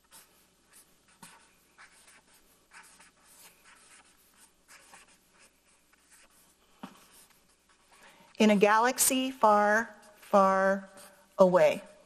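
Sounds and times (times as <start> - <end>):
marker pen scratching on paper: 0.0 - 12.0.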